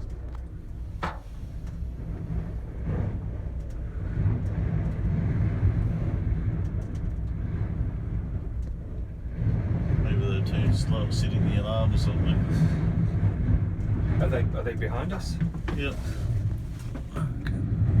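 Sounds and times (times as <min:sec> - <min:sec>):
gondola cabin rumble in wind: 0:00.0 - 0:18.0.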